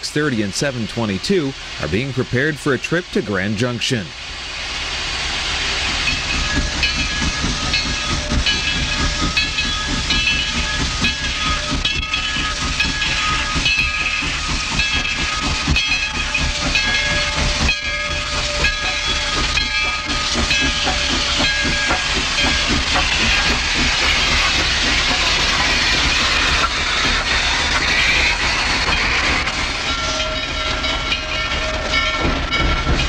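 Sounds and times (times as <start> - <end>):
steam hissing: 0.0 - 33.0
steam locomotive chuffing: 0.0 - 33.0.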